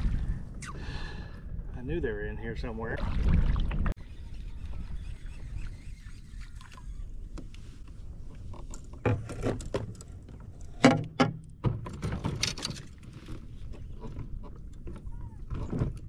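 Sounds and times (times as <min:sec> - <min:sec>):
wind rumble on microphone: 0:00.0 - 0:10.8, 0:11.7 - 0:16.0.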